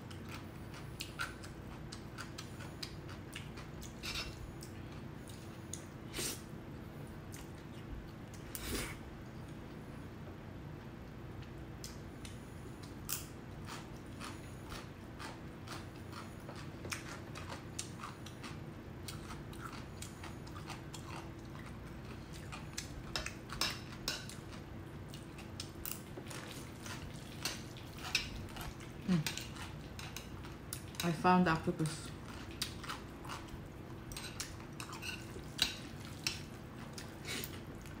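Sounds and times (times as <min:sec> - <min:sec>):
person chewing crunchy food: 0:00.0 - 0:06.4, 0:11.4 - 0:31.0, 0:32.1 - 0:38.0.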